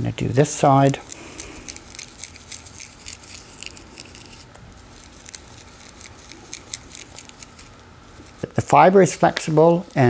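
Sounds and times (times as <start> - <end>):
flax straw crackling as it breaks: 0.4 - 8.5.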